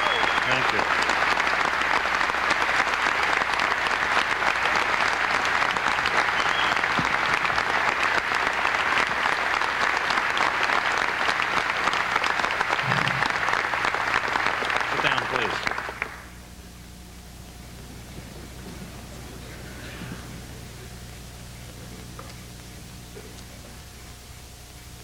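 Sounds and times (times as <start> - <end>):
large audience applauding: 0.0 - 16.4, 17.8 - 21.9.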